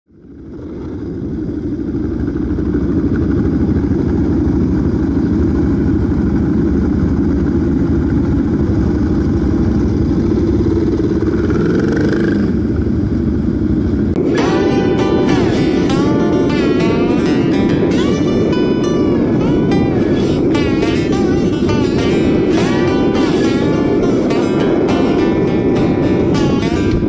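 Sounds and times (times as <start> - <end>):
motorcycle engine running: 0.2 - 27.0.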